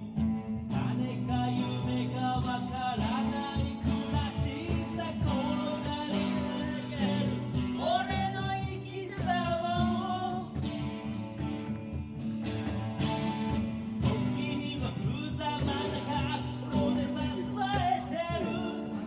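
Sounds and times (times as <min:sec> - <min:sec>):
man singing: 0:00.0 - 0:11.8, 0:13.8 - 0:19.0
cajon beating: 0:00.0 - 0:19.0
strummed acoustic guitar: 0:00.0 - 0:19.0.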